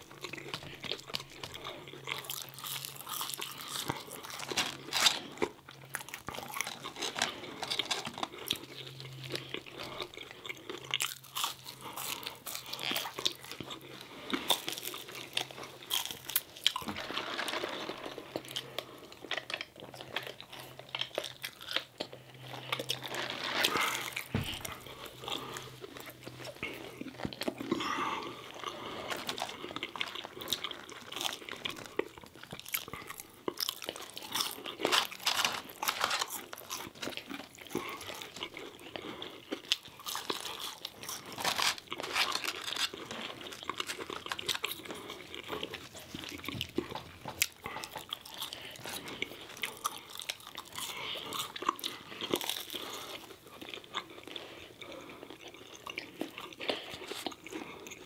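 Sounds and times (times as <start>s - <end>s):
people chewing crunchy food: 0.0s - 58.0s.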